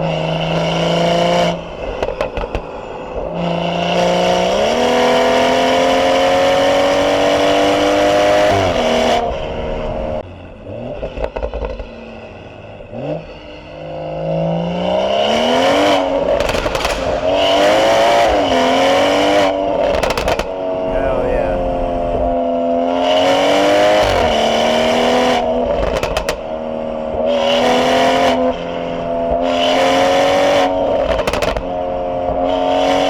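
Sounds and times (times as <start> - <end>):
car engine accelerating: 3.6 - 33.0.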